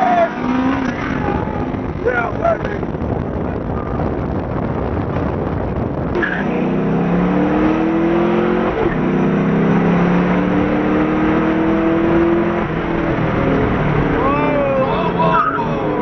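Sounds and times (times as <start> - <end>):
car engine accelerating hard: 0.0 - 16.0
road and wind noise: 0.0 - 16.0.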